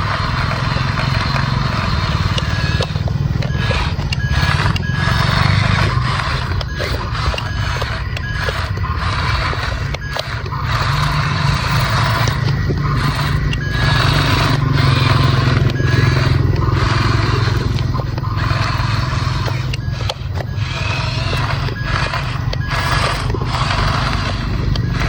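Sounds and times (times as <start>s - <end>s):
steady low hum: 0.0s - 25.0s
toy electric motors whirring: 0.0s - 25.0s.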